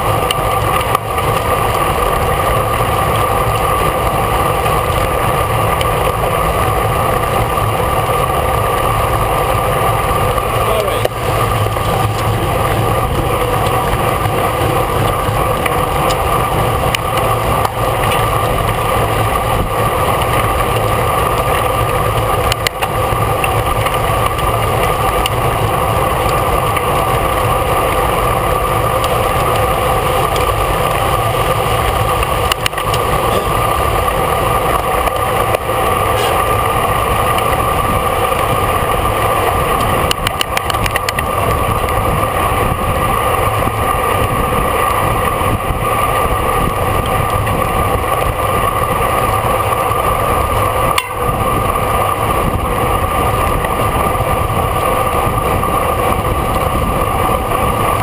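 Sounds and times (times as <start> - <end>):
bicycle road noise: 0.0 - 58.0.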